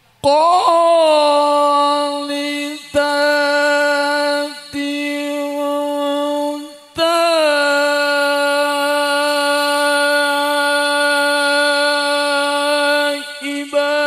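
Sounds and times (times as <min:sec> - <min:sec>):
man reciting melodically: 0:00.2 - 0:14.0.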